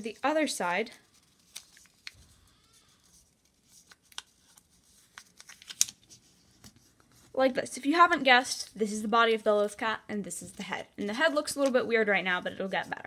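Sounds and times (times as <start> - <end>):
paper folding and crinkling: 0.0 - 13.0.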